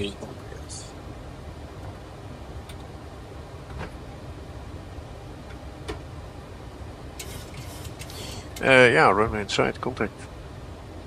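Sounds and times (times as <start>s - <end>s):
airflow and air conditioning rush: 0.0s - 11.0s.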